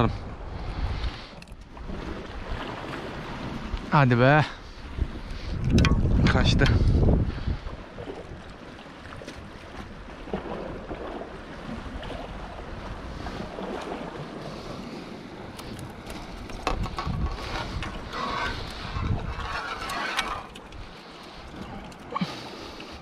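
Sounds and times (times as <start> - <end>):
wind buffeting microphone: 0.0 - 22.0
sea water washing along shore: 0.0 - 23.0.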